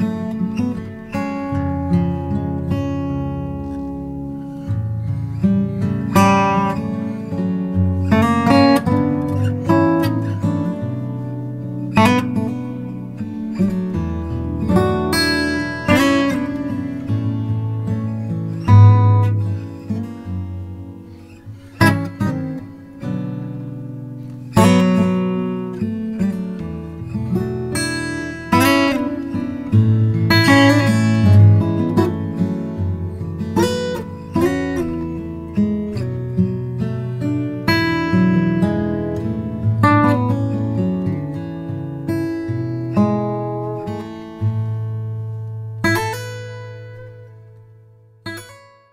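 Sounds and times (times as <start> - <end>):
acoustic guitar chords strummed: 0.0 - 48.9.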